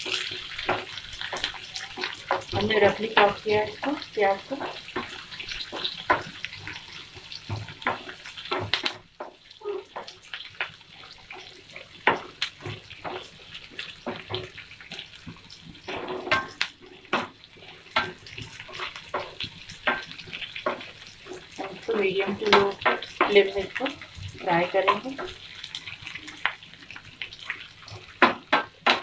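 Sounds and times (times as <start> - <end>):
onion sizzling in oil: 0.0 - 29.0.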